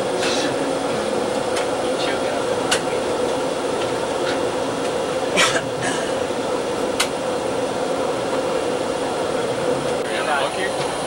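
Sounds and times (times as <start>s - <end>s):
ship machinery humming: 0.0s - 11.0s.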